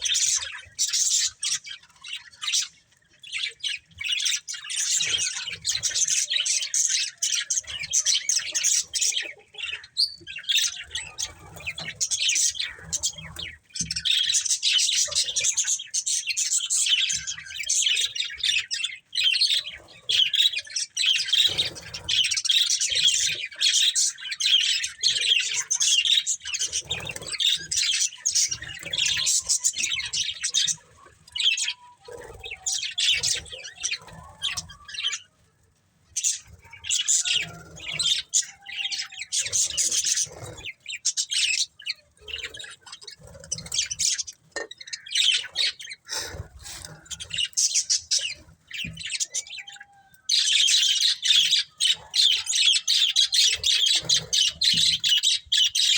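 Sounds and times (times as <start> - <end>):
budgies chirping: 0.0 - 55.9.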